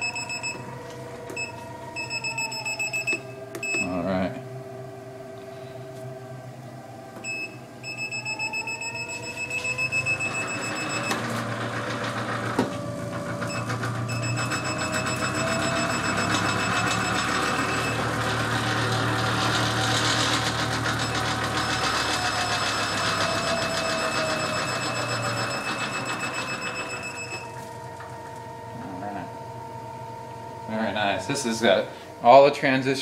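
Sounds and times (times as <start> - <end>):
high-pitched tone: 0.0 - 11.6, 13.2 - 32.8
vibration platform motors humming: 0.0 - 33.0.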